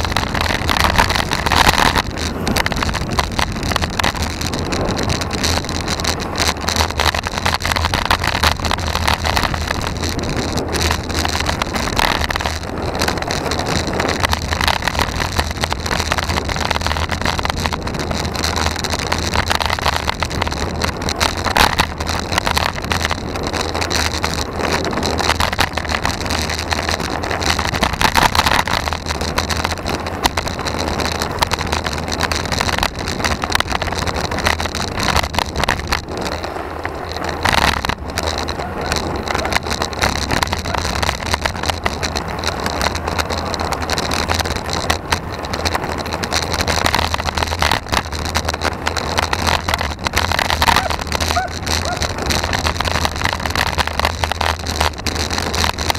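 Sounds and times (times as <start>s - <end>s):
bike rattling: 0.0s - 55.9s
tyres on asphalt: 0.0s - 55.9s
wind rumble on microphone: 0.0s - 55.9s.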